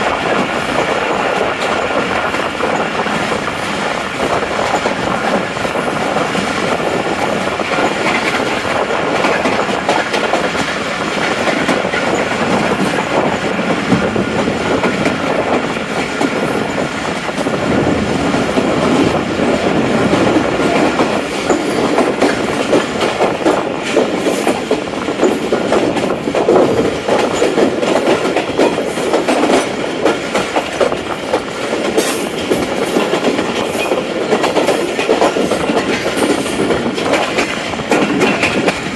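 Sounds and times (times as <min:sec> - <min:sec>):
passenger train rumbling: 0:00.0 - 0:38.9
wheels clattering over rail joints: 0:00.0 - 0:38.9.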